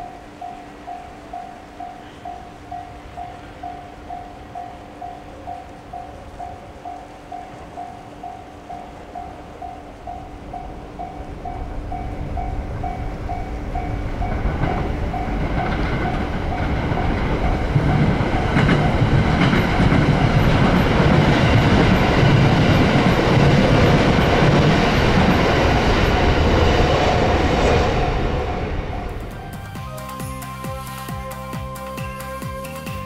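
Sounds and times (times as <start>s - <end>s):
train passing with wheel clatter: 0.0s - 33.0s.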